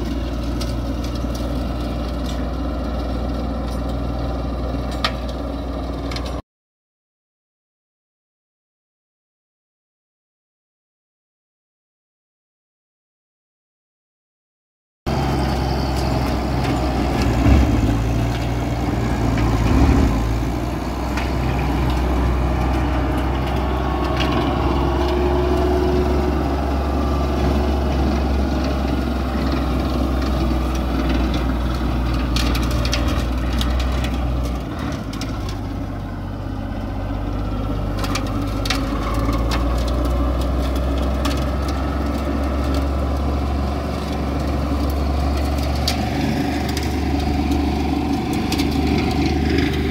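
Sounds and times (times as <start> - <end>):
tractor diesel engine running: 0.0 - 6.4, 15.1 - 49.9.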